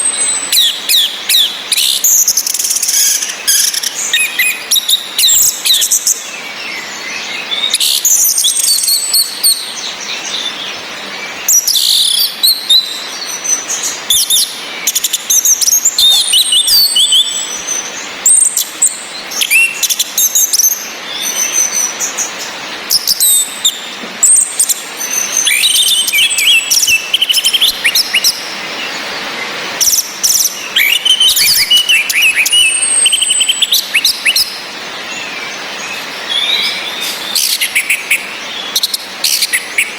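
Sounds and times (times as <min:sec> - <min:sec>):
rain hiss: 0:00.0 - 0:39.9
thrushes singing: 0:00.0 - 0:39.9.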